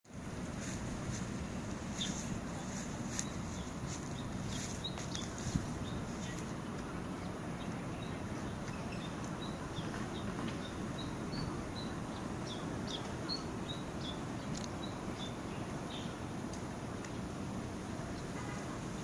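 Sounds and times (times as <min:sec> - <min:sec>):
small birds chirping: 0:00.1 - 0:19.0
steady low background noise: 0:00.1 - 0:19.0.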